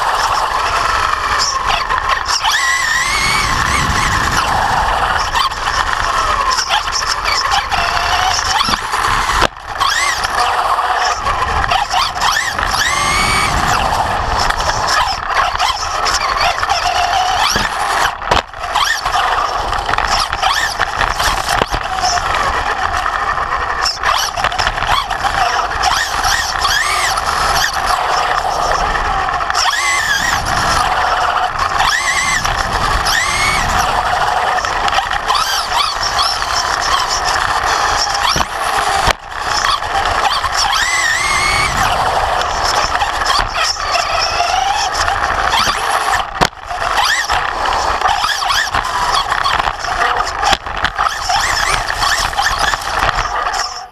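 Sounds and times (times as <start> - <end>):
rc truck electric motor whining: 0.0 - 53.9.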